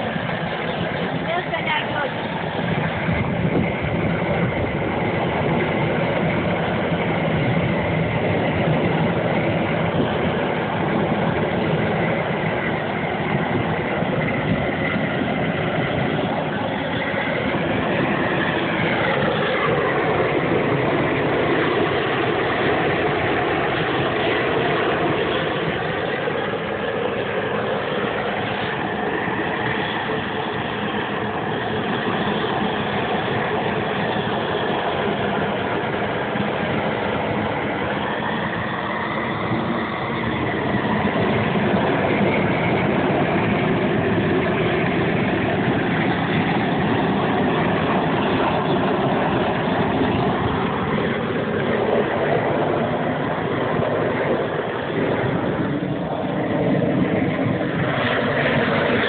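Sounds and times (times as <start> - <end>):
gas torch burning: 0.0 - 59.0.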